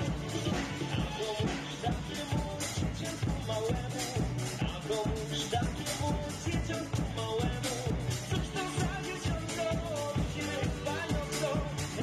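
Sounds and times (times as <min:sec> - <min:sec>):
acoustic drum kit: 0:00.0 - 0:12.0
backing track with bass and melody: 0:00.0 - 0:12.0.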